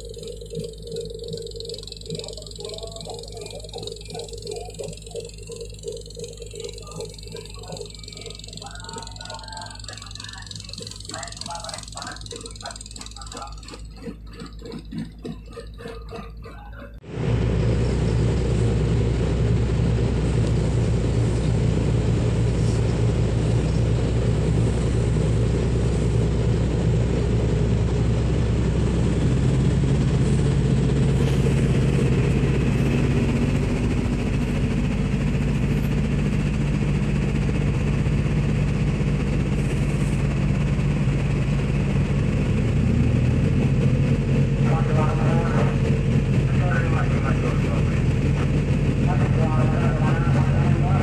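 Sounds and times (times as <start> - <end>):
ship diesel engine drone: 0.0 - 51.0.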